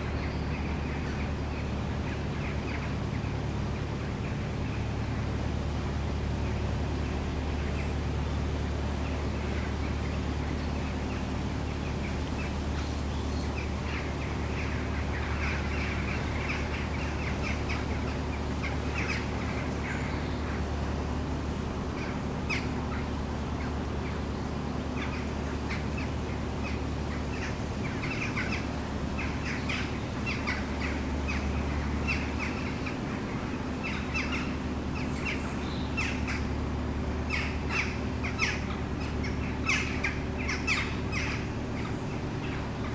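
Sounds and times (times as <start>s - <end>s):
birds calling: 0.0s - 42.9s
boat diesel engine humming: 0.0s - 42.9s.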